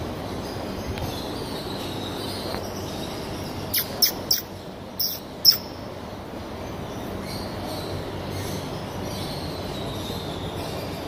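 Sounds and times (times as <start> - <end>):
bird chirping: 0.3 - 11.0.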